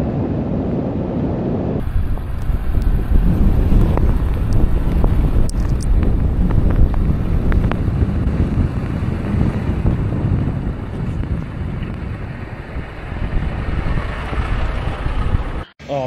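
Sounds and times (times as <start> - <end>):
rumble of vehicles: 0.0 - 15.7
wind buffeting microphone: 0.0 - 15.7.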